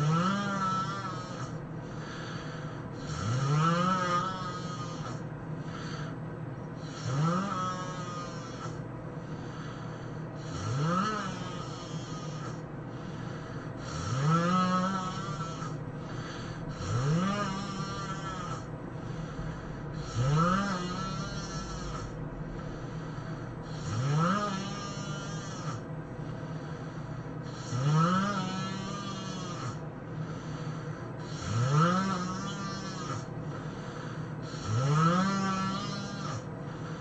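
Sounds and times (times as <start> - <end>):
person snoring heavily: 0.0 - 6.2, 6.8 - 37.0.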